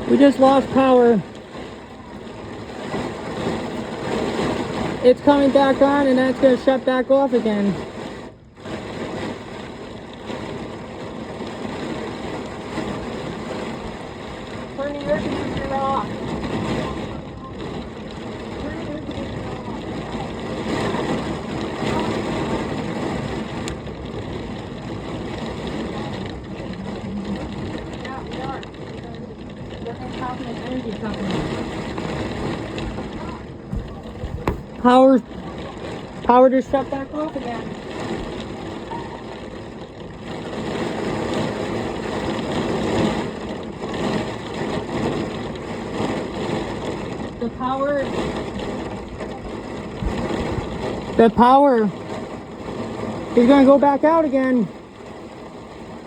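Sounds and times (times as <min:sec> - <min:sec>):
heavy rain: 0:00.0 - 0:56.0
wind: 0:00.0 - 0:56.0.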